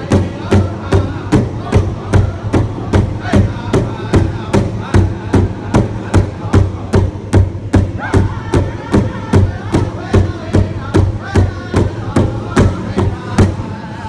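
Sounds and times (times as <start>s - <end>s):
large drum beating: 0.0s - 13.7s
men singing high: 0.0s - 14.0s.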